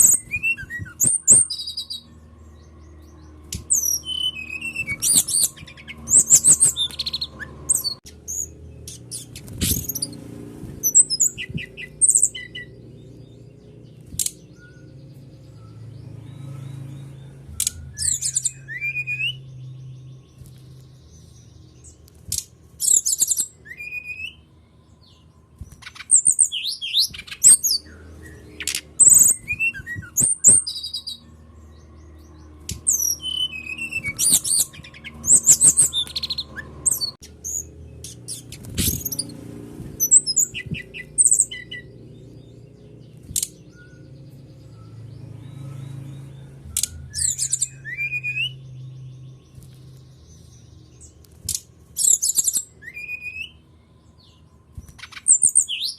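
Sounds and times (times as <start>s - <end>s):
bird chirps and whistled trills: 0.0s - 55.9s.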